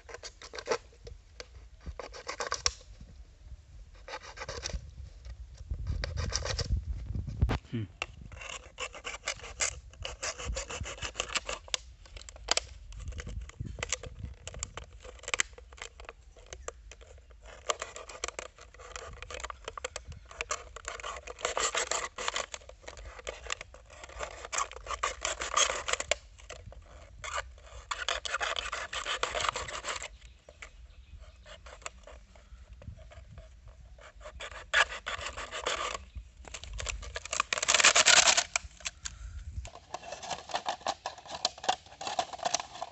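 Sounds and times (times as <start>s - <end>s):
knife sawing plastic bottle: 0.0s - 2.8s, 3.9s - 4.8s, 5.8s - 6.7s, 8.0s - 38.9s, 39.7s - 42.9s.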